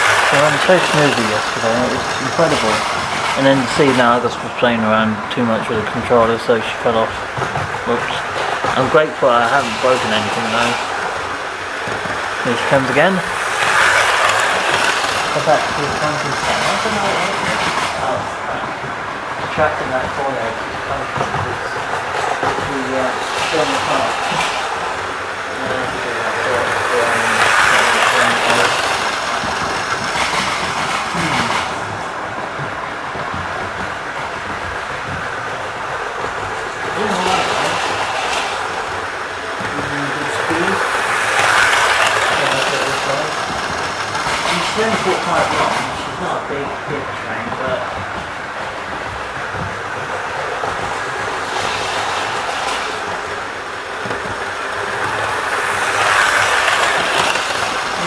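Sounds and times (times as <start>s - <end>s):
model train wheels rumbling: 0.0s - 58.0s
train motor hum: 0.0s - 58.0s.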